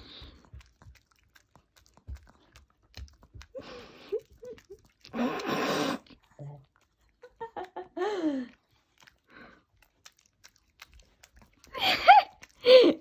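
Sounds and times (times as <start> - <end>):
dog chewing and smacking: 0.0 - 13.0.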